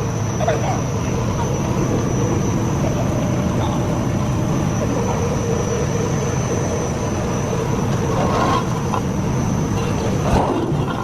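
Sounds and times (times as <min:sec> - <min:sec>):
furnace machine rumble: 0:00.0 - 0:11.0
high machine whine: 0:00.0 - 0:11.0.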